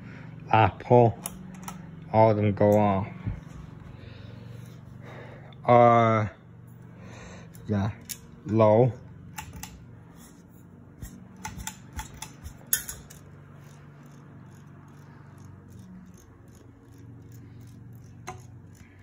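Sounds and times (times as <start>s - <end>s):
ceiling fan motor humming: 0.0s - 19.0s.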